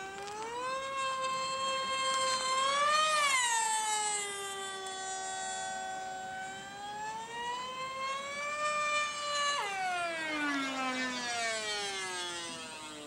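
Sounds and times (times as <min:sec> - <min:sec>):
model airplane motor whining: 0:00.0 - 0:13.0.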